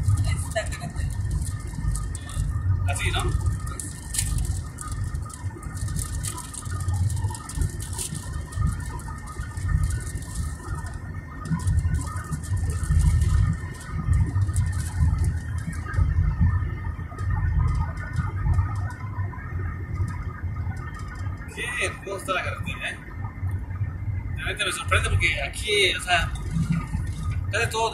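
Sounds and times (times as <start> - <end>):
road and engine rumble: 0.0 - 27.9
wind buffeting on microphone: 0.0 - 27.9.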